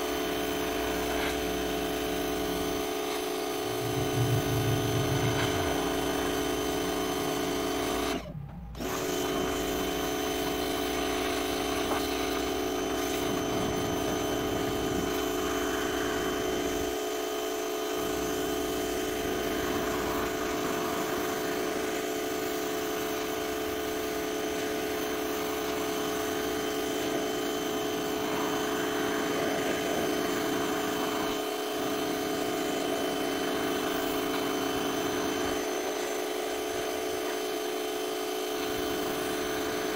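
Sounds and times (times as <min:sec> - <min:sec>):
pressure washer motor hum: 0:00.0 - 0:39.9.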